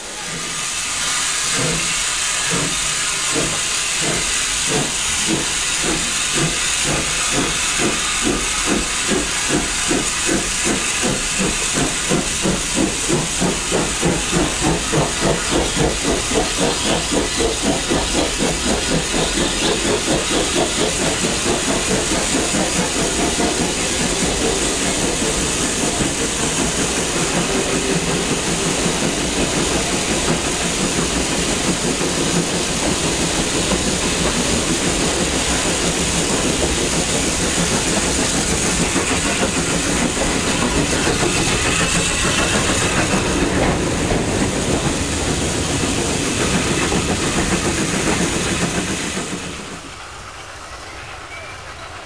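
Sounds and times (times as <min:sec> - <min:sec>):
constant steam hiss: 0:00.0 - 0:52.0
train wheels rumbling on track: 0:00.0 - 0:52.0.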